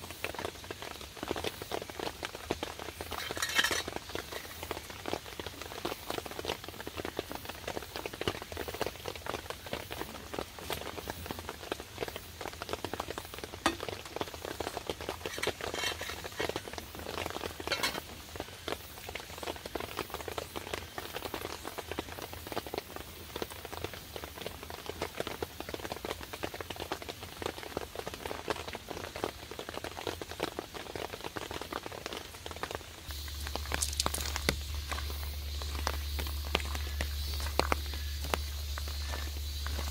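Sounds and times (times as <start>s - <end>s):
rain pattering: 0.0s - 39.9s
steady hiss: 0.0s - 39.9s.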